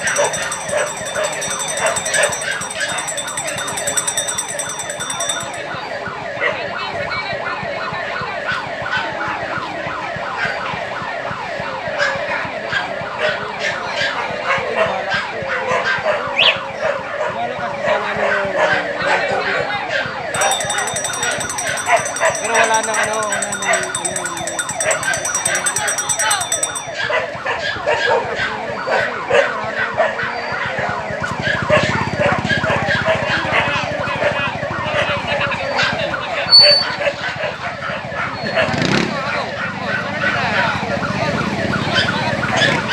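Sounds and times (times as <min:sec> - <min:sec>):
siren yelping: 0:00.0 - 0:42.9.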